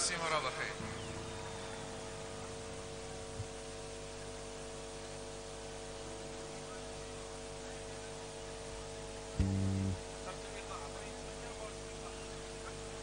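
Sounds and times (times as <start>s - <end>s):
electrical hum with hiss: 0.0s - 13.0s.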